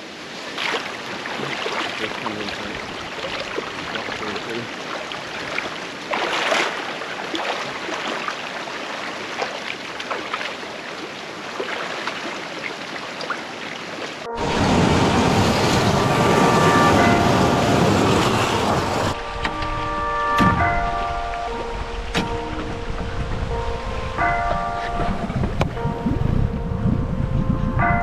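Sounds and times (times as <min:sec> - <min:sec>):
river water splashing: 0:00.0 - 0:25.9.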